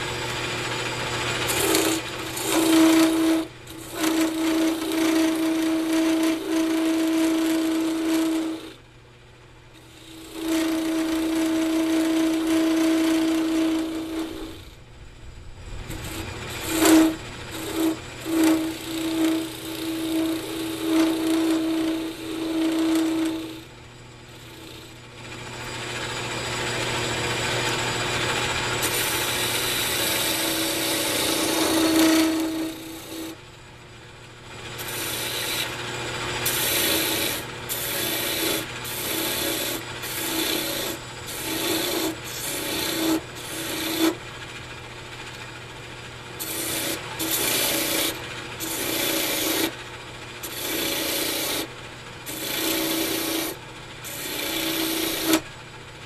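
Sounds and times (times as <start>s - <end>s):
turning tool cutting spinning wood: 0.0s - 8.9s, 9.7s - 14.9s, 15.6s - 33.6s, 34.3s - 56.0s
lathe humming: 0.0s - 9.0s, 9.6s - 56.0s.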